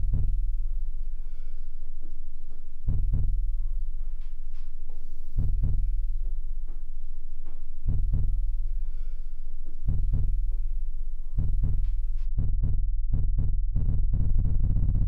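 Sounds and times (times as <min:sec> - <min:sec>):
deep heartbeat-like thumps: 0:00.0 - 0:00.9, 0:02.7 - 0:09.0, 0:09.6 - 0:15.0
steady low drone: 0:00.0 - 0:15.0.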